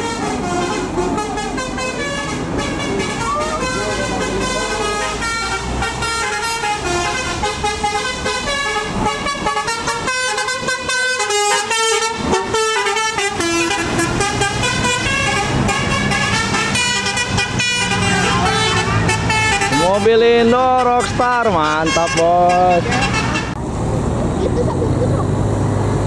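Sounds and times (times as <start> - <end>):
multi-tone bus horn tune: 0.0 - 23.6
diesel engine running: 0.0 - 26.0.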